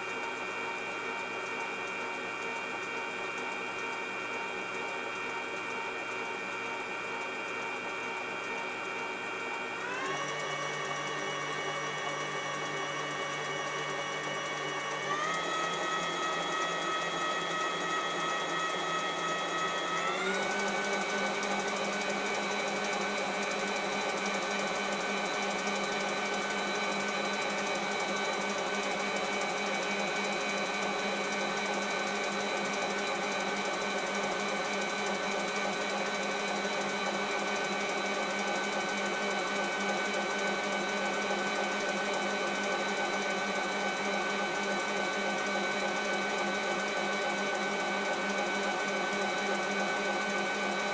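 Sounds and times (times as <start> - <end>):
electric mixer motor whine: 0.0 - 50.9.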